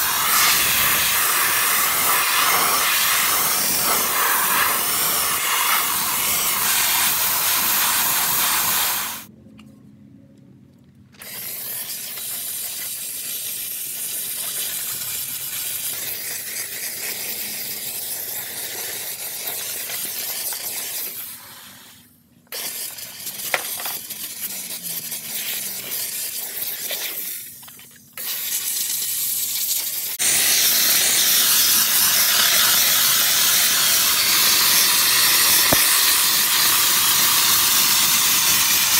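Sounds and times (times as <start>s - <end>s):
steam cleaner hissing: 0.0s - 9.3s, 11.2s - 27.5s, 28.2s - 38.9s.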